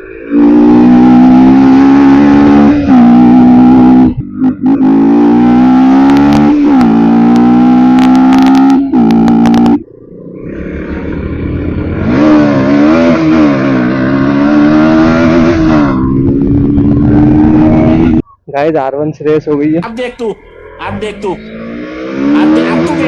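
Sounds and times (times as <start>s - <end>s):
motorcycle engine revving: 0.0s - 18.2s, 20.3s - 23.0s.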